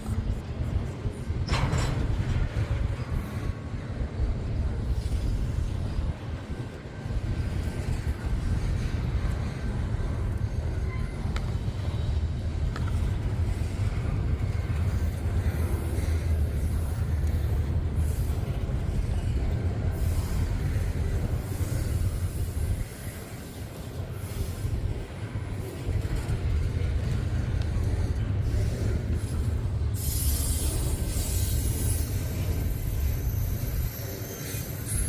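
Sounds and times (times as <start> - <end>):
freight train rumbling past: 0.0 - 35.0.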